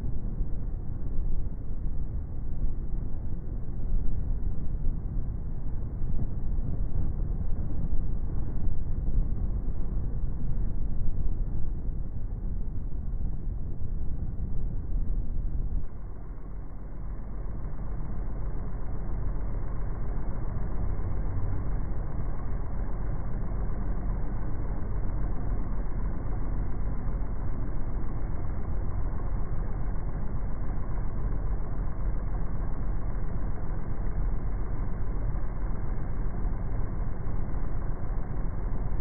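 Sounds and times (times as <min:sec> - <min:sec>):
low droning rumble: 0:00.0 - 0:39.0.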